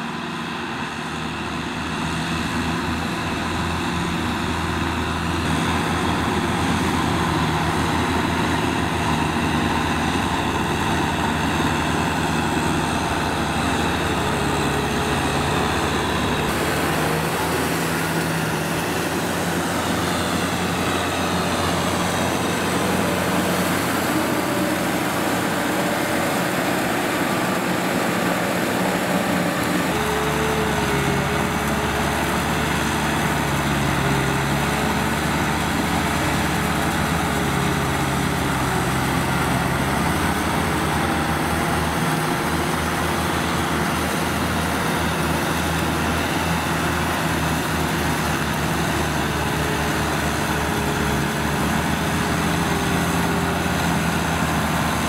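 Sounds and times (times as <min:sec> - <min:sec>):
tractor diesel engines under load: 0:00.0 - 0:55.0.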